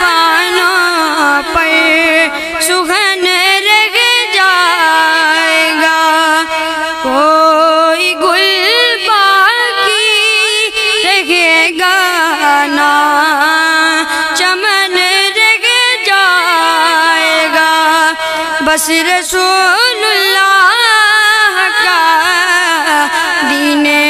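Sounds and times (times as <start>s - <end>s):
boy singing into a microphone: 0.0s - 24.0s.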